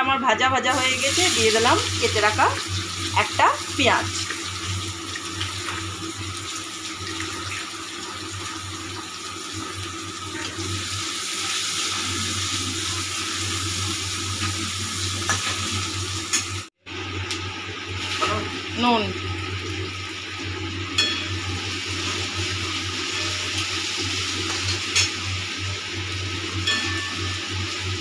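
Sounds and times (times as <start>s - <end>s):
onion sizzling in hot oil: 0.6s - 28.0s.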